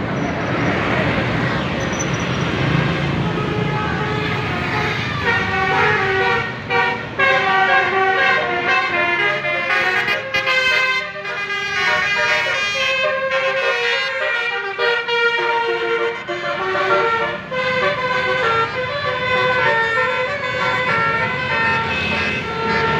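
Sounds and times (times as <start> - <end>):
musical bus air horns: 3.1 - 22.9.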